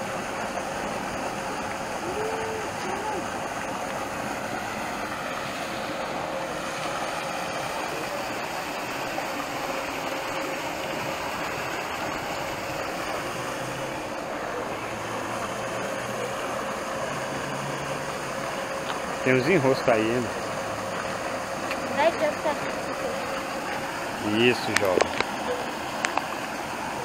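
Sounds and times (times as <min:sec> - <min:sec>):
motor hum: 0:00.0 - 0:27.0
paddle wheel churning water: 0:00.0 - 0:27.0.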